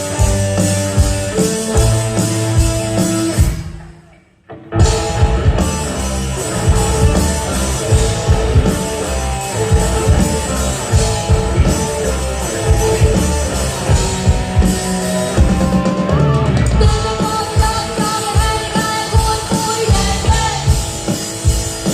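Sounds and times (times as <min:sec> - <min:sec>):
drum kit beating: 0:00.0 - 0:04.1, 0:04.8 - 0:21.9
bass guitar: 0:00.0 - 0:21.9
electric guitar: 0:00.0 - 0:21.9.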